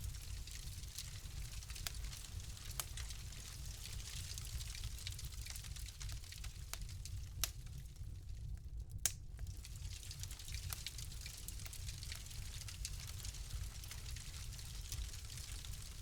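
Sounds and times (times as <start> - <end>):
low rumble of flame: 0.0 - 16.0
wood fire crackling: 0.0 - 16.0.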